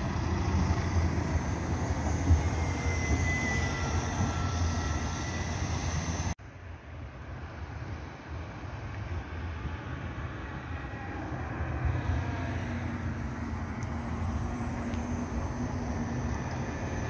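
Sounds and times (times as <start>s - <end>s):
electric bus drive hum: 0.0s - 6.4s, 7.4s - 17.0s.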